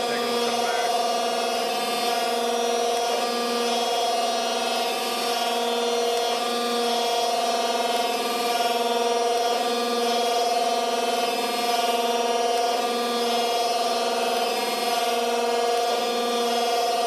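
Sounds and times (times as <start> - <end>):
surface grinder whining hum: 0.0 - 17.0.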